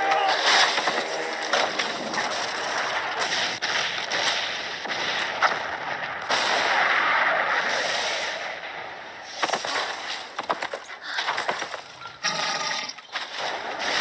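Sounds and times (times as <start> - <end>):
sharp bangs: 0.0 - 12.0
explosion and fire noise: 0.0 - 14.0.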